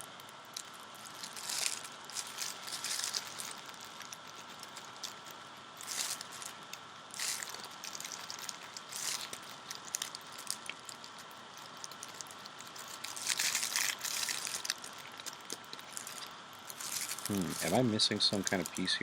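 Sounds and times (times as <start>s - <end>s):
plastic parts rubbing and scraping: 1.0s - 6.6s, 7.2s - 18.8s.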